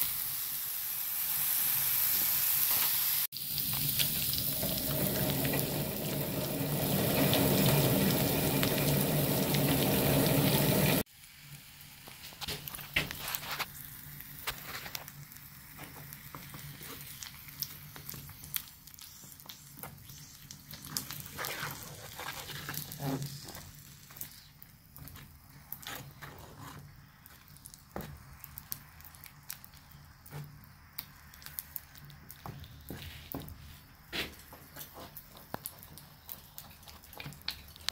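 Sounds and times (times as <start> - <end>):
crackles pops and sizzling: 0.0 - 37.9
molten borax bubbling: 3.2 - 37.9.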